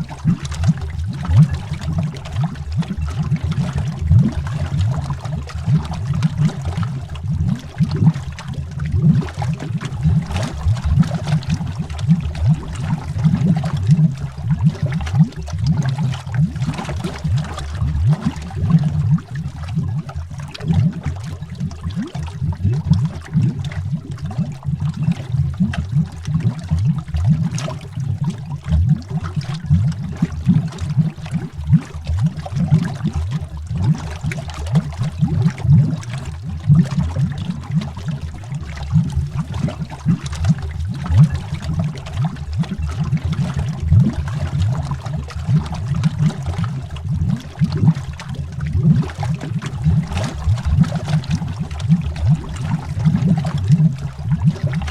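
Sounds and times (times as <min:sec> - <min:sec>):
underwater water bubbling: 0:00.0 - 0:54.9.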